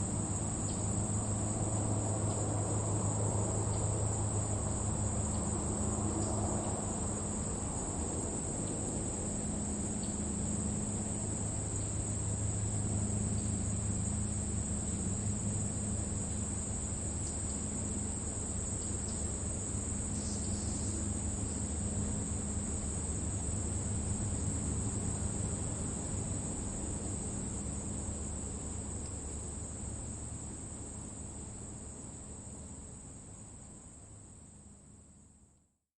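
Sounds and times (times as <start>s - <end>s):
crickets chirping: 0.0s - 35.6s
low steady rumble: 0.0s - 35.6s.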